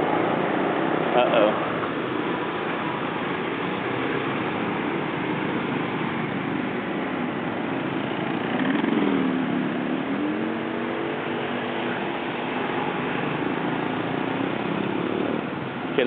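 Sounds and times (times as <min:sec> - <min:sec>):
motorbike traffic: 0:00.0 - 0:16.0
motorbike engine passing: 0:02.8 - 0:16.0.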